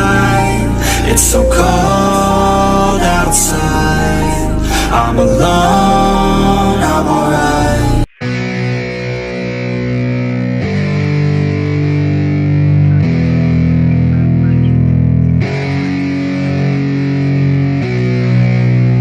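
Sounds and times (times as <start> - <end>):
distorted electric guitar chords: 0.0 - 19.0.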